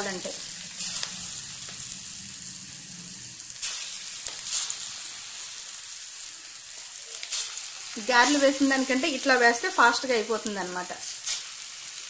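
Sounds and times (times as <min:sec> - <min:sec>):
deep-frying sizzle: 0:00.0 - 0:12.0.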